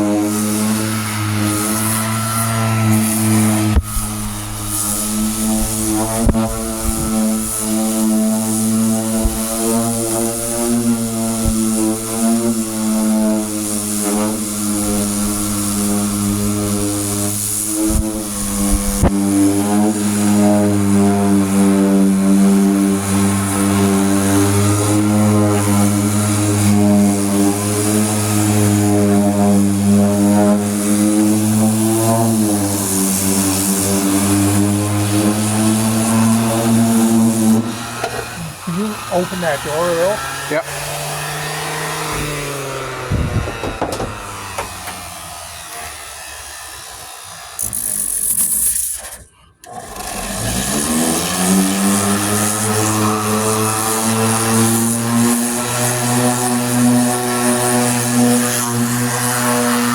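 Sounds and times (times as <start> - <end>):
hiss of abrasive sanding: 0.0 - 49.4
power sander motor drone: 0.0 - 59.9.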